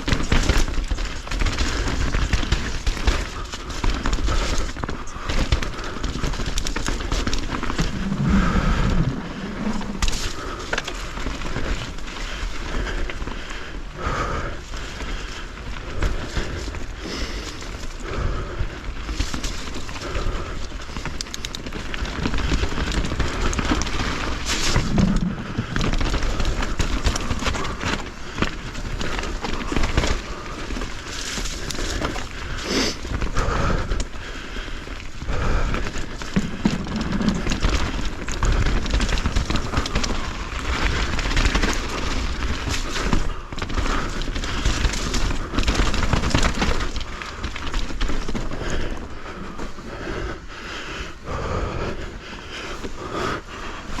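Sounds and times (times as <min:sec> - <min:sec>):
bike knocks and rattles: 0:00.0 - 0:13.7, 0:14.3 - 0:49.8
tyre and wind noise: 0:00.0 - 0:54.0.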